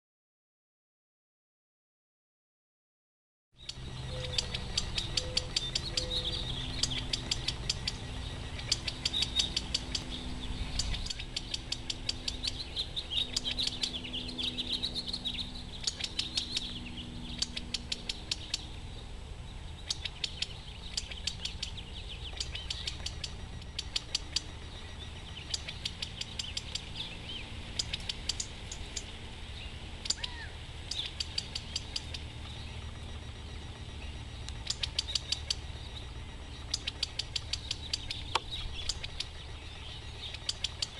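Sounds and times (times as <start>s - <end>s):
quails calling: 3.6s - 40.9s.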